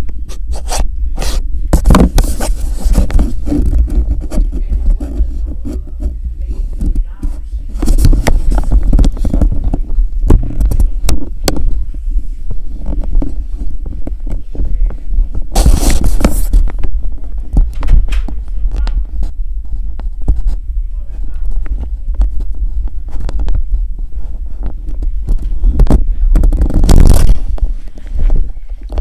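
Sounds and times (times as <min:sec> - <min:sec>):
deep hum: 0:00.0 - 0:29.0
knocks and rubbing on microphone: 0:00.0 - 0:29.0.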